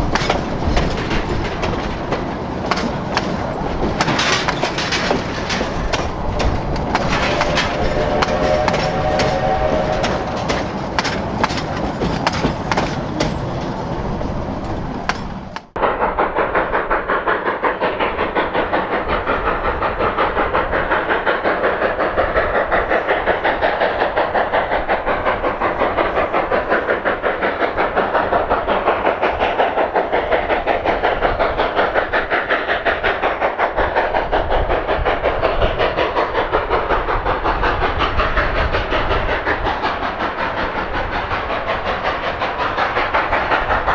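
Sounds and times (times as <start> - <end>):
steam train rhythmic beats: 0.0 - 43.9.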